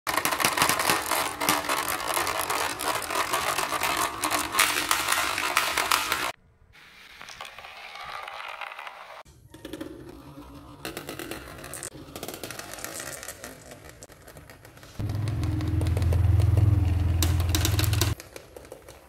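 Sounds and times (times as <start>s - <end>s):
marbles clattering down track: 0.1s - 6.3s, 7.0s - 19.0s
marbles rolling in plastic channel: 0.1s - 6.3s, 7.0s - 19.0s.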